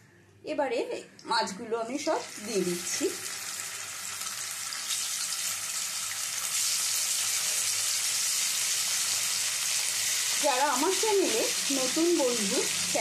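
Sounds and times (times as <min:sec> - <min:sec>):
fish sizzling in hot oil: 0:02.2 - 0:13.0.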